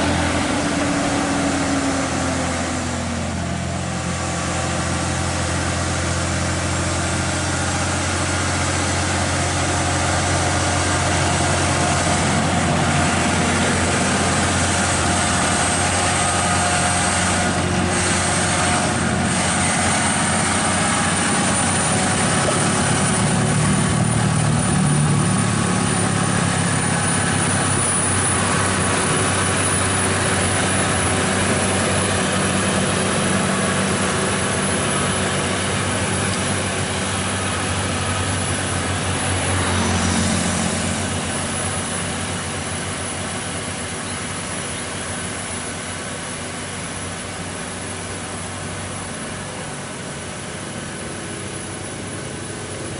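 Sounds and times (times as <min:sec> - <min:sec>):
high engine whine: 0:00.0 - 0:52.9
truck diesel engine running: 0:00.0 - 0:52.9.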